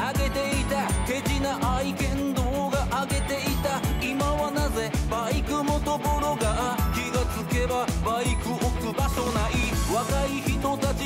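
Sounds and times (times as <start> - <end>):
upbeat pop music: 0.0 - 11.0.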